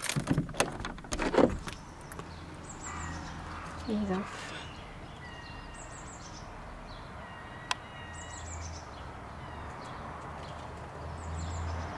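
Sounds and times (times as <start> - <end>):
small birds chirping: 1.5 - 11.9.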